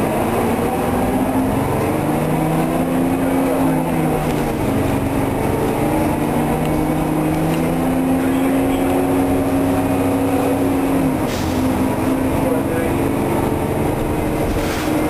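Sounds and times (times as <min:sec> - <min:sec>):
bus diesel engine running: 0:00.0 - 0:15.0
road noise: 0:00.0 - 0:15.0.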